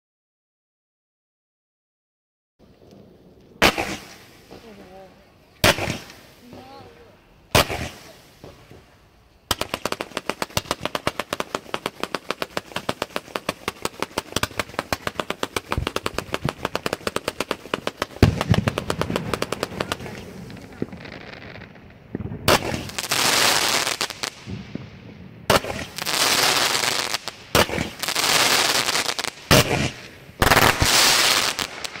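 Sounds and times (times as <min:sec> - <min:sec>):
firework crackling hiss: 0:03.5 - 0:32.0
rapid fireworks shots: 0:03.5 - 0:32.0
loud firework bangs: 0:03.6 - 0:08.9, 0:09.5 - 0:32.0.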